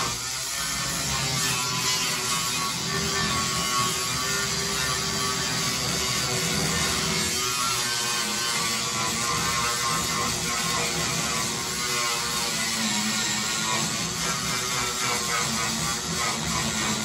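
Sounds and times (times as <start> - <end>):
power grinder grinding metal: 0.0 - 17.0.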